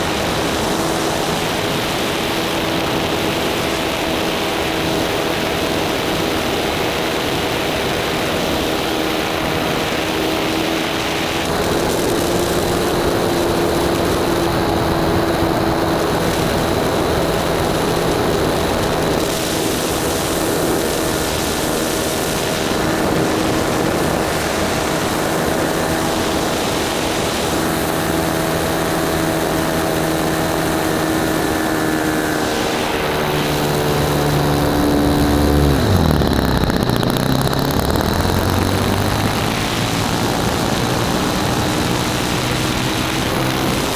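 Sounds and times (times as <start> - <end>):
model plane engine running: 0.0 - 43.9.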